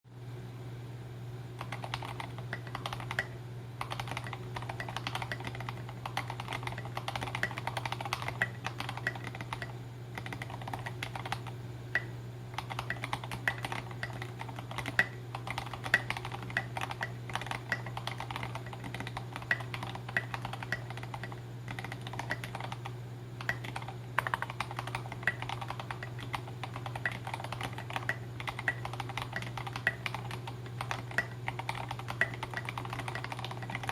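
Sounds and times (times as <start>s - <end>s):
low steady hum: 0.1s - 33.9s
mechanical keyboard typing: 1.6s - 33.9s.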